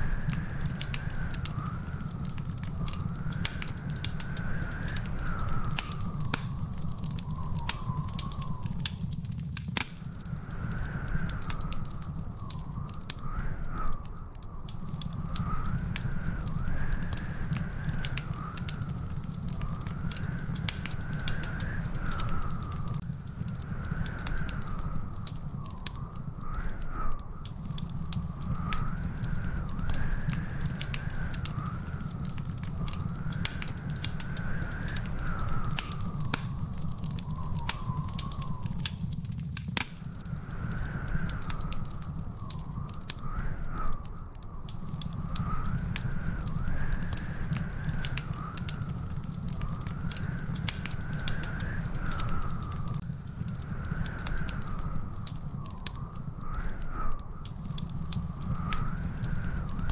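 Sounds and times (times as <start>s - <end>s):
thin wavering whistling tone: 0.0s - 9.4s, 10.0s - 39.3s, 40.0s - 59.9s
wood fire crackling: 0.0s - 59.9s.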